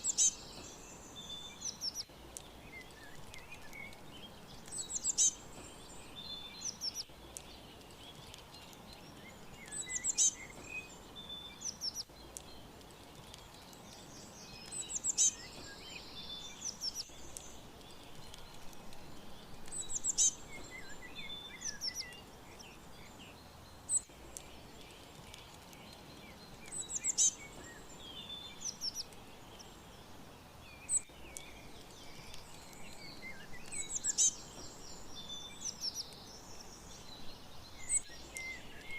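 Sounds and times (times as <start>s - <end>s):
faint background hiss: 0.0s - 38.9s
small birds chirping: 0.0s - 38.9s.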